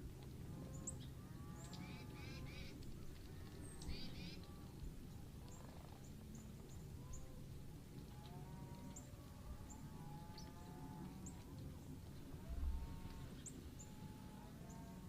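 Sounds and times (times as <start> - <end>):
distant animals calling: 0.5 - 15.0.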